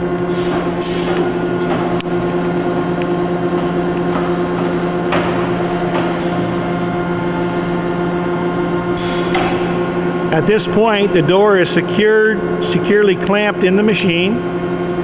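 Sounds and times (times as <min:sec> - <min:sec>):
hydraulic motor humming: 0:00.0 - 0:15.0.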